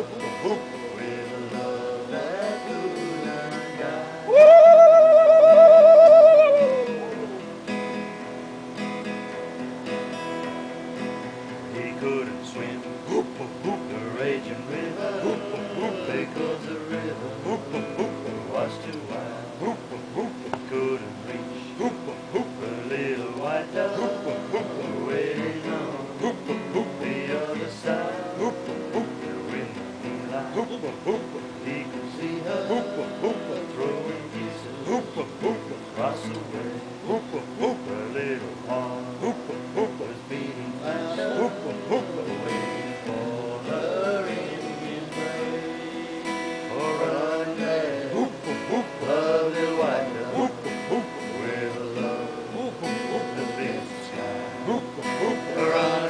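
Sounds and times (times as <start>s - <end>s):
country music with plucked strings: 0.0s - 4.5s, 6.0s - 56.0s
person singing: 0.0s - 7.5s, 11.7s - 56.0s
acoustic guitar strumming: 0.0s - 56.0s.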